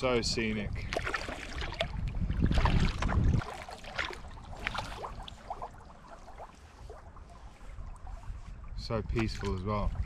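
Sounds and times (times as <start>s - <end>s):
water drips and splashes: 0.0s - 10.0s
paddle strokes in water: 0.8s - 10.0s.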